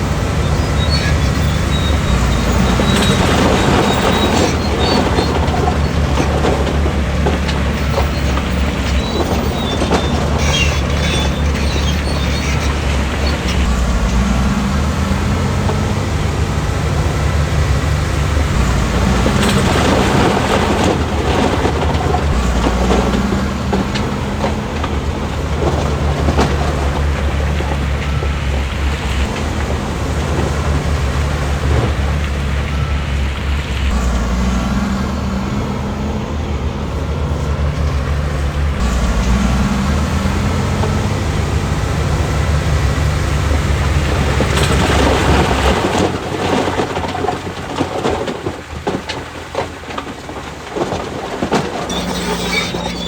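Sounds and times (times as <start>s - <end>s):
diesel earthmoving machine drone: 0.0s - 53.0s
metallic clanking and rattling: 0.0s - 53.0s.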